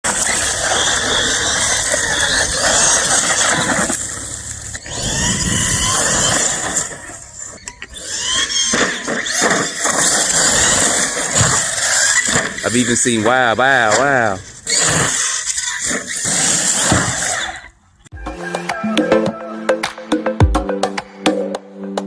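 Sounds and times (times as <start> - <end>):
rc truck motor whining: 0.0 - 18.1.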